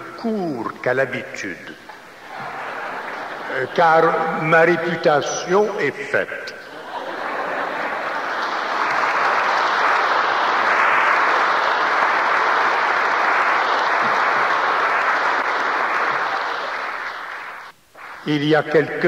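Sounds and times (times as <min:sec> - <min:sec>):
congregation applauding: 0:00.0 - 0:05.9, 0:06.7 - 0:19.0.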